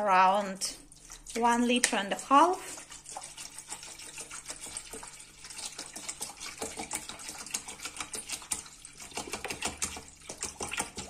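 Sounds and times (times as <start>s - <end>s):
water pouring into a metal pot: 0.1s - 11.0s.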